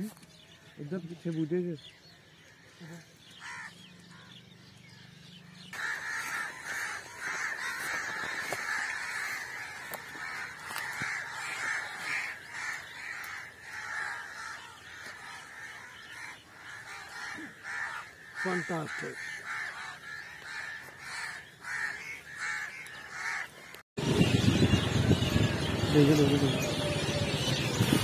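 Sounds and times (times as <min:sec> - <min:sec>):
chorus of bird calls: 0:00.0 - 0:28.0.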